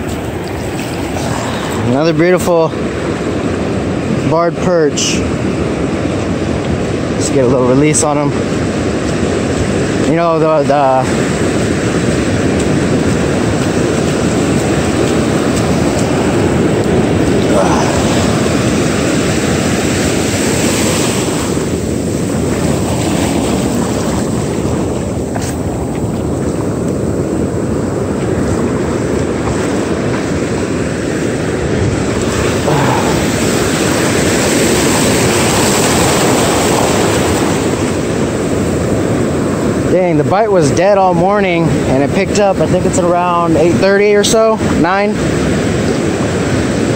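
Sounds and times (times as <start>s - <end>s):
surf washing up beach: 0.0s - 46.9s
wind buffeting microphone: 0.0s - 46.9s.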